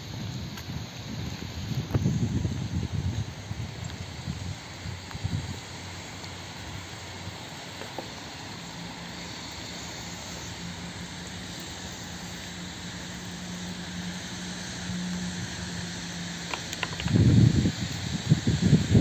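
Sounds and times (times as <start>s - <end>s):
distant engine hum: 0.0s - 19.0s
outdoor hiss: 0.0s - 19.0s.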